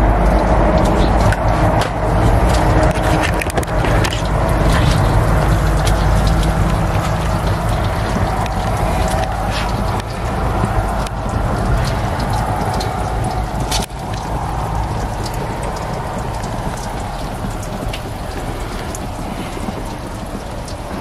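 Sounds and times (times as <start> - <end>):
drips and ticks: 0.0 - 21.0
low rumble: 0.0 - 21.0
water spraying on car: 0.0 - 21.0.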